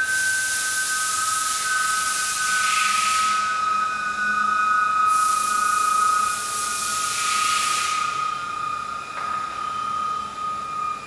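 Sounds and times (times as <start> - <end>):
air hissing: 0.0 - 9.6
high whistle tones: 0.0 - 11.0.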